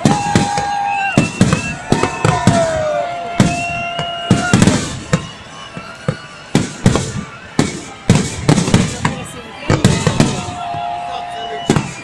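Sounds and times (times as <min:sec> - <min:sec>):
fireworks bangs: 0:00.0 - 0:12.0
fireworks whistling: 0:00.0 - 0:12.0.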